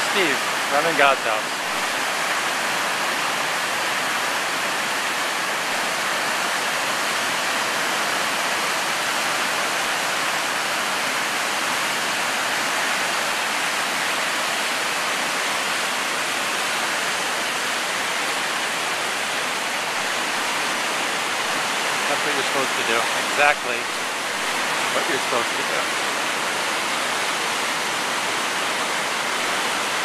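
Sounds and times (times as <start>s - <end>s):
whitewater rapid rushing: 0.0s - 30.0s.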